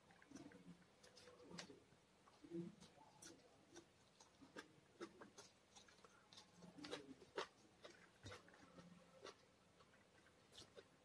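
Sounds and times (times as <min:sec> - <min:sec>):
faint chewing with mouth clicks: 0:00.0 - 0:11.0.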